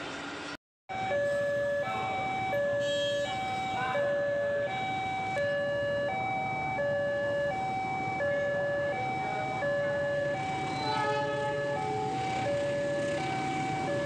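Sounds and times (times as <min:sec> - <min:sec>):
level crossing two-tone alarm: 0:00.9 - 0:14.0.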